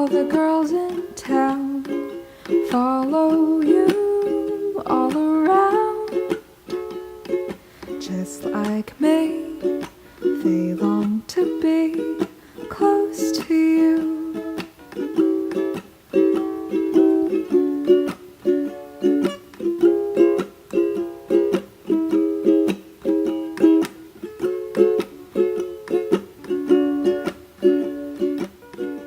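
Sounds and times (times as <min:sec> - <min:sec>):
strummed string instrument: 0:00.0 - 0:29.0.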